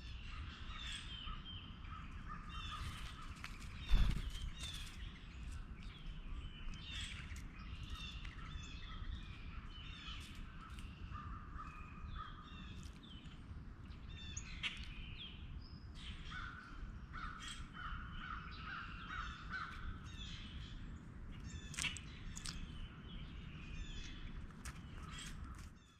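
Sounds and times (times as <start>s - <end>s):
low background rumble: 0.0s - 25.9s.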